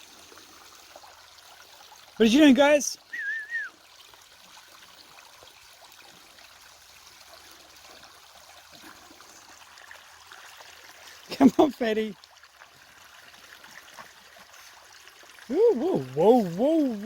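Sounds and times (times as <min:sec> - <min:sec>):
creek water trickling: 0:00.0 - 0:17.0.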